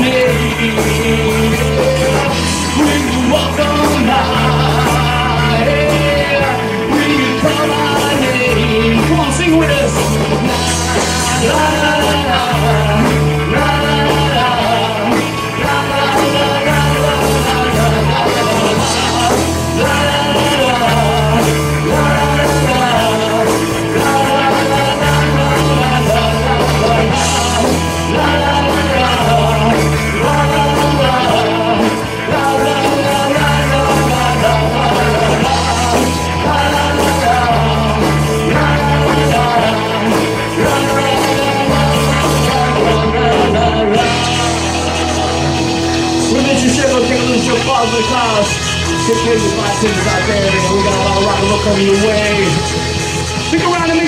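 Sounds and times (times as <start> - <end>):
electric bass line: 0.0 - 54.0
person singing: 0.0 - 54.0
rock band playing: 0.0 - 54.0.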